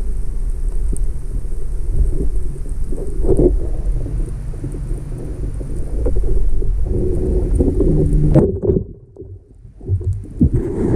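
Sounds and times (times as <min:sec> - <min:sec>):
low pitched hum: 0:00.0 - 0:10.9
underwater rumble of water: 0:00.0 - 0:10.9.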